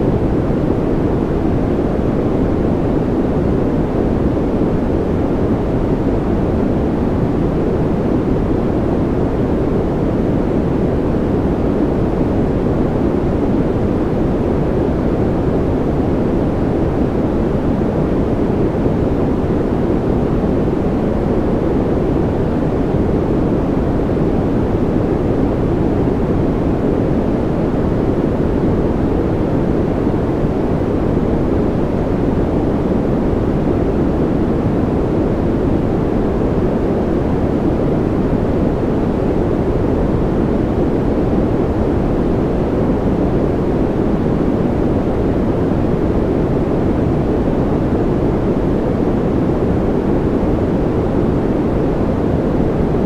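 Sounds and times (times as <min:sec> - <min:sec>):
deep white noise: 0:00.0 - 0:53.0.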